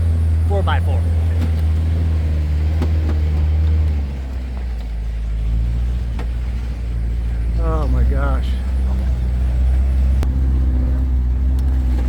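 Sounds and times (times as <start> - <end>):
diesel truck engine droning uphill: 0.0 - 12.0.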